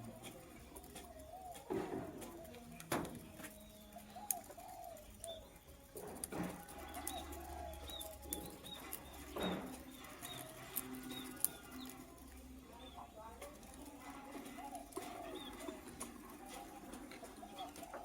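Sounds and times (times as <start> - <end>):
pigeons cooing: 0.0 - 18.0
bird chirping: 0.8 - 5.9, 6.6 - 13.3, 14.5 - 18.0.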